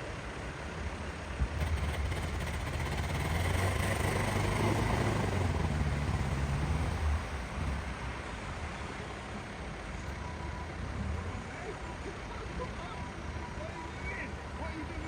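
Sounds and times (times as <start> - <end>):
vehicle engine: 0.0 - 12.1
road noise: 0.0 - 15.0.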